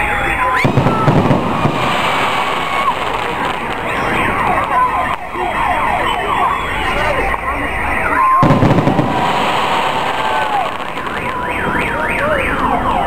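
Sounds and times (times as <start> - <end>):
whistling fireworks: 0.0 - 13.0.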